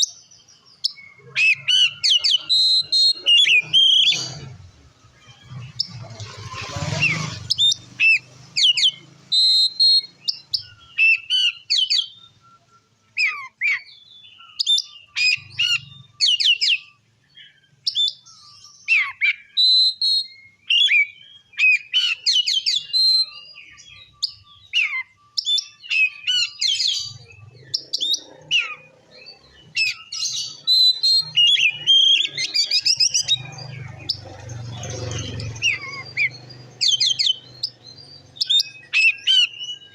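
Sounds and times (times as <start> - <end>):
songbird singing whistled notes: 0.0 - 4.4, 6.8 - 39.9.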